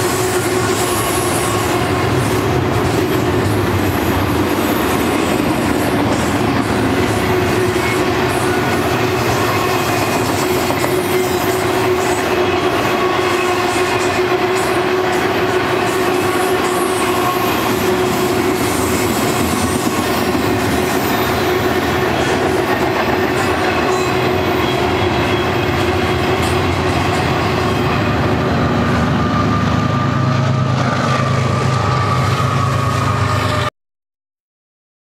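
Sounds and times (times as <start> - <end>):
freight train wheels clattering: 0.0 - 33.6
diesel locomotive hum: 0.0 - 33.7.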